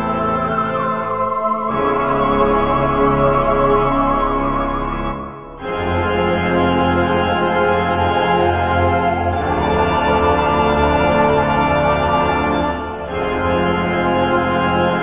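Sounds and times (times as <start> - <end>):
background music of held chords: 0.0 - 15.0.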